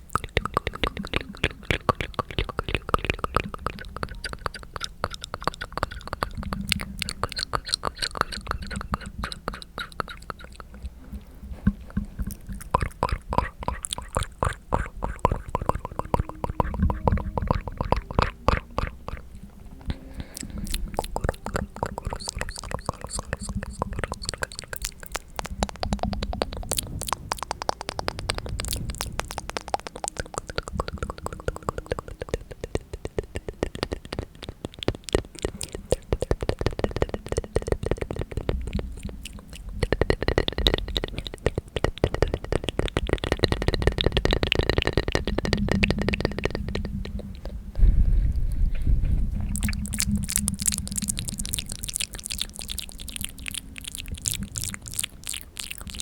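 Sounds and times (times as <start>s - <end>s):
wet mouth clicks and smacks: 0.0s - 56.0s.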